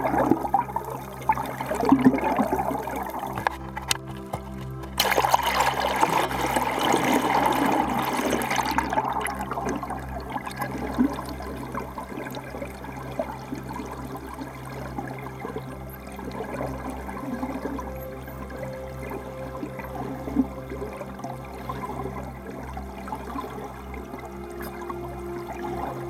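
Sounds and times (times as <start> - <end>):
muffled underwater noise: 0.0 - 26.0
water rushing and bubbling: 0.0 - 26.0.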